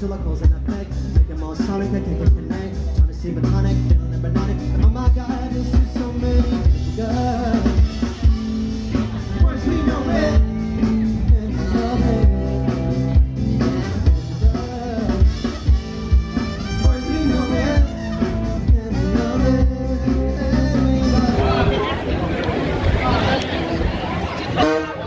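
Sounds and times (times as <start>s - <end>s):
person singing: 0.0s - 15.9s, 16.7s - 21.8s
drum kit: 0.0s - 21.6s
bass: 0.0s - 25.0s.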